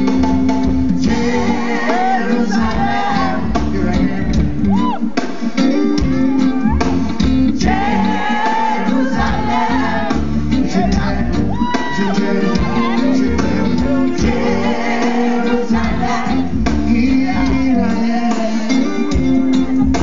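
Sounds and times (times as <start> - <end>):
reggae band playing: 0.0 - 20.0
man singing: 1.0 - 4.9, 7.5 - 20.0.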